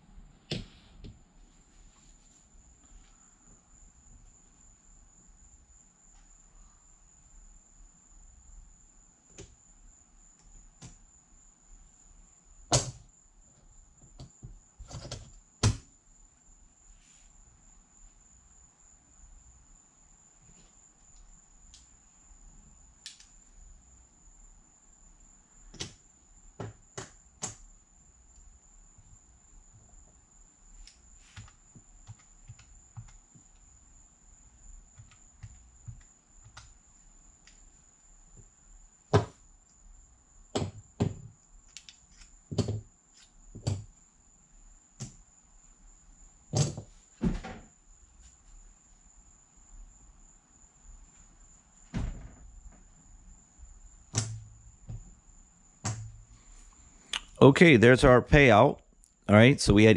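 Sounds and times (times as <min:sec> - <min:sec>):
faint high-pitched whine: 0:00.0 - 0:59.9.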